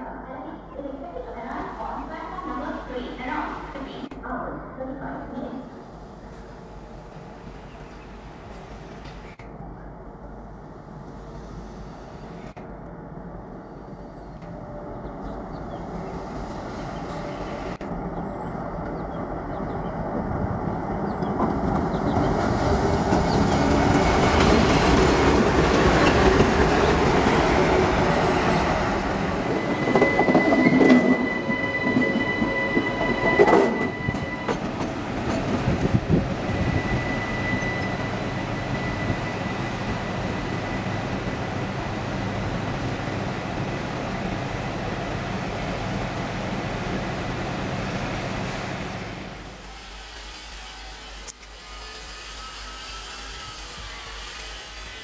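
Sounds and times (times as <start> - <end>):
diesel locomotive engine rumbling: 0.0 - 55.0.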